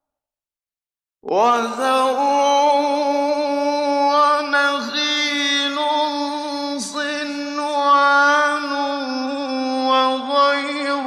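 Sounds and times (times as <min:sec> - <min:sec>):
man chanting melodic recitation: 0:01.2 - 0:11.0.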